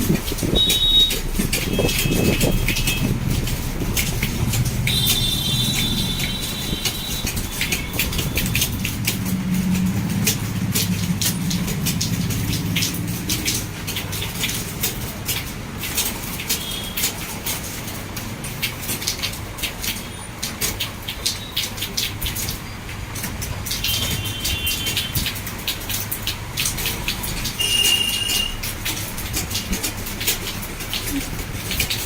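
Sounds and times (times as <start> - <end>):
fast typing on keyboard: 0.0 - 32.0.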